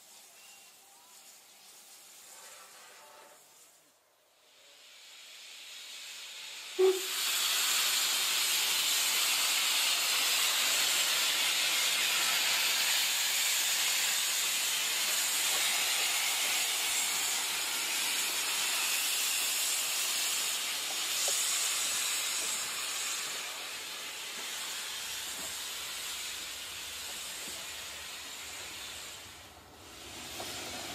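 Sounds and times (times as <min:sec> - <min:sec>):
steam locomotive hissing: 0:00.0 - 0:30.9.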